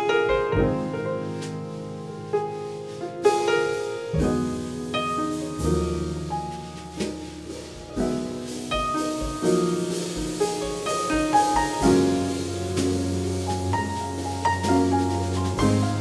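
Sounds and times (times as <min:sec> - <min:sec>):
upright piano: 0:00.0 - 0:16.0
double bass: 0:00.4 - 0:16.0
brushes on snare drum: 0:02.5 - 0:16.0.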